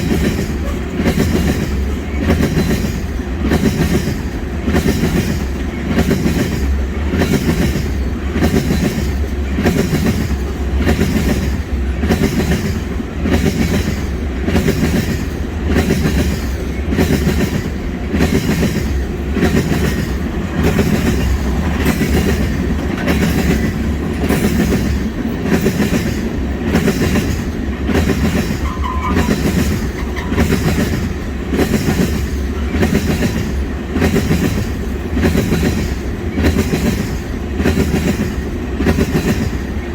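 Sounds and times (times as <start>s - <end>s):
low train rumble: 0.0s - 39.9s
train wheels clattering over rail joints: 0.0s - 39.9s.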